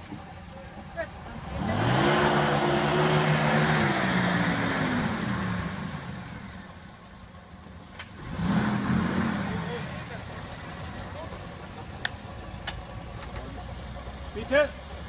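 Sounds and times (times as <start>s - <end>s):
car engine revving up: 1.3s - 6.8s, 8.0s - 15.0s.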